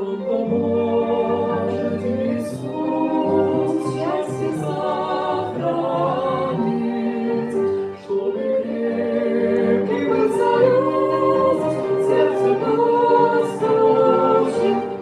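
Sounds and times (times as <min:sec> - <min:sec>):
duet singing: 0:00.0 - 0:15.0
instrumental backing: 0:00.0 - 0:15.0.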